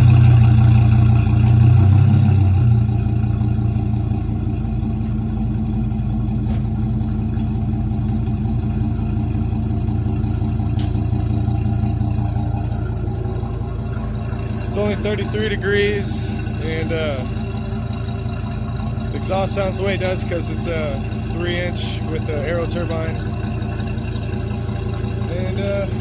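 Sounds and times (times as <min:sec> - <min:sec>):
engine idling deep drone: 0:00.0 - 0:26.0.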